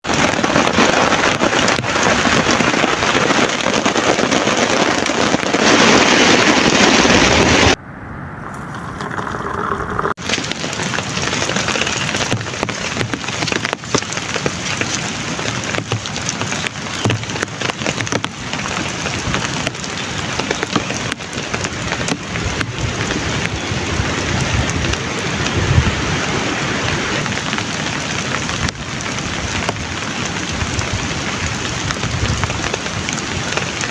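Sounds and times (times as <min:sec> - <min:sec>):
heavy rain pouring: 0:00.0 - 0:07.8, 0:10.0 - 0:33.9.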